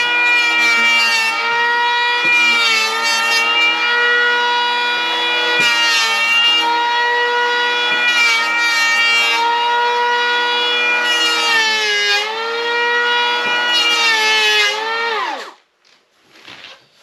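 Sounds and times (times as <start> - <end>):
electric planer whining: 0.0 - 15.6
planer blades shaving wood: 0.0 - 15.6.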